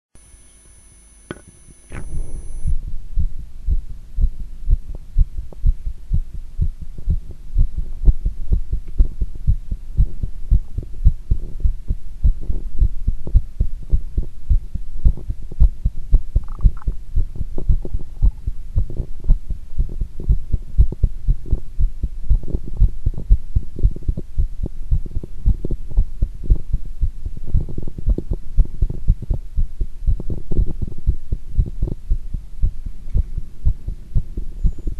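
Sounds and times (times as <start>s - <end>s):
heartbeat thumps: 1.3s - 34.9s.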